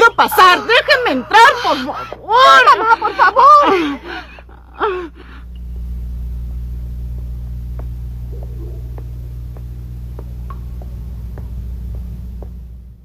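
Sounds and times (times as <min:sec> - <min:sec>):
low steady cave hum: 0:00.0 - 0:13.0.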